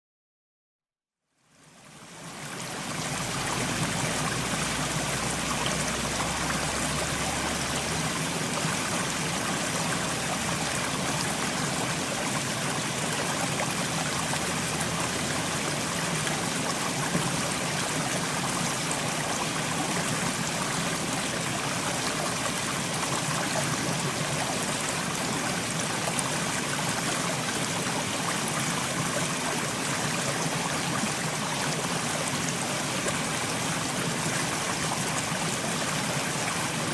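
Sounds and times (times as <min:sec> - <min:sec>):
stream water rushing: 0:01.6 - 0:36.9.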